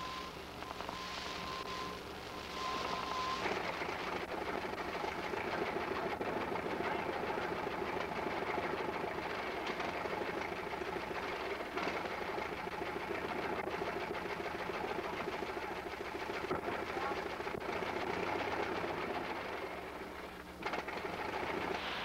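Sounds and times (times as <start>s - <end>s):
machine clattering rapidly: 3.4s - 22.0s.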